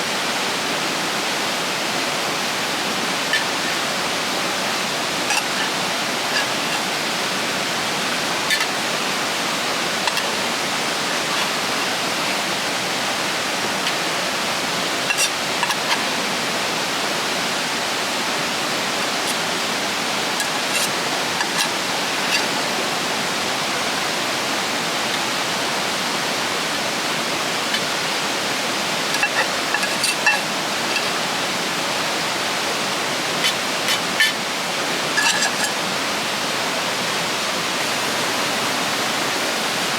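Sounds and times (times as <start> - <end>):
river rushing over rapids: 0.0 - 39.9.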